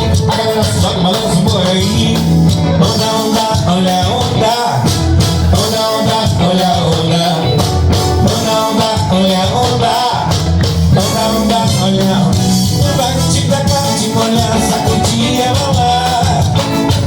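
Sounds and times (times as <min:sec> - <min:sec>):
band playing upbeat dance music: 0:00.0 - 0:17.0.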